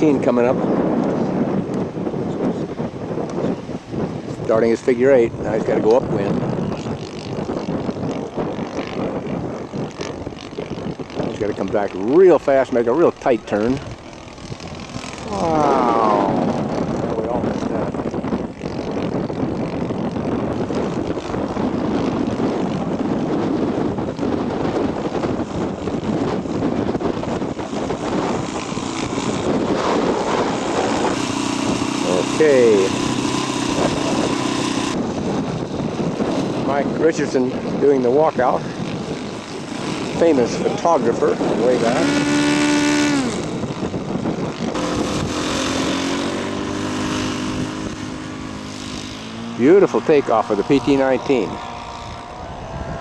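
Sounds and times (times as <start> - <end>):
model airplane engine droning: 0.0 - 53.0.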